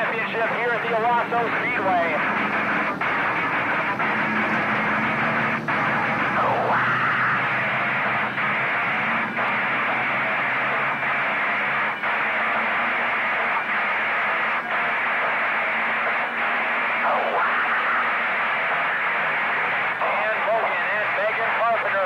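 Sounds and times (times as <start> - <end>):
racing car engines: 0.0 - 22.0.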